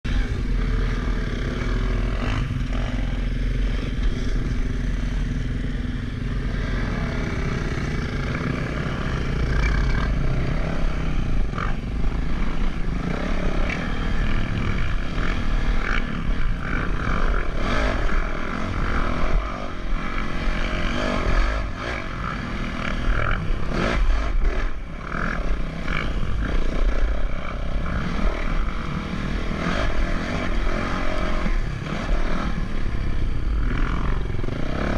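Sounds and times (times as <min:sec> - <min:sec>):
vehicle rumble: 0:00.0 - 0:34.9.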